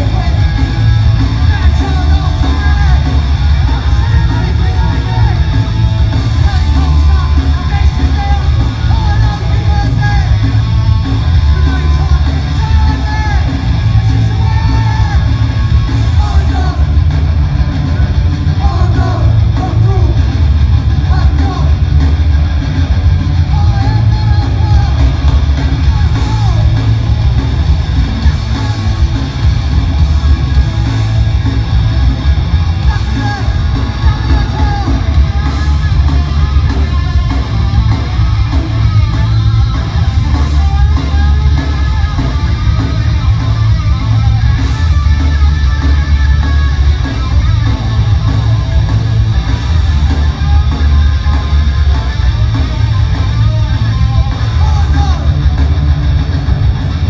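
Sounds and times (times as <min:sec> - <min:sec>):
live punk band playing: 0:00.0 - 0:57.0.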